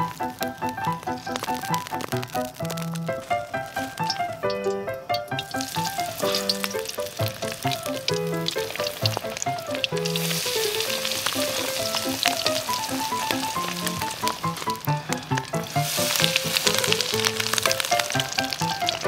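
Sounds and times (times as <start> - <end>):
background music: 0.0 - 19.0
fish frying in hot oil: 0.0 - 19.0.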